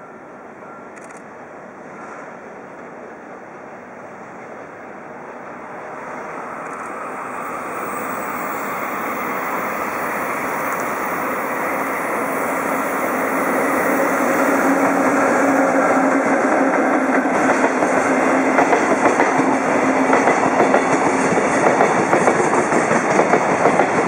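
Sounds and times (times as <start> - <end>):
freight train approaching: 0.0 - 24.0
low locomotive hum: 0.0 - 24.0.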